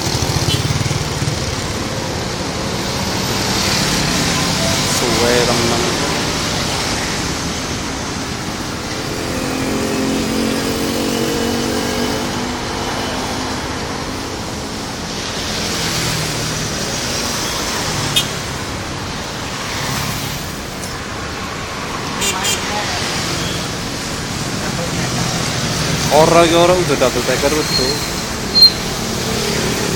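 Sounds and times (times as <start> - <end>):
road traffic: 0.0 - 29.9.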